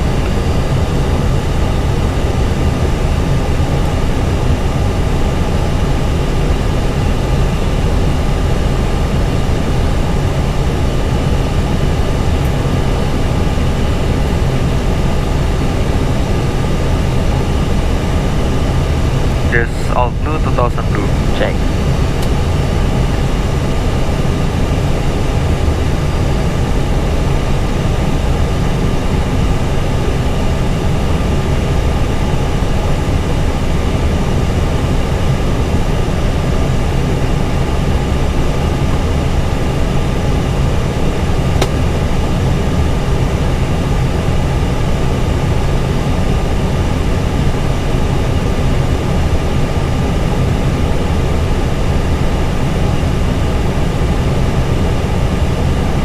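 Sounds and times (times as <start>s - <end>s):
cockpit airflow and engine noise: 0.0s - 56.0s.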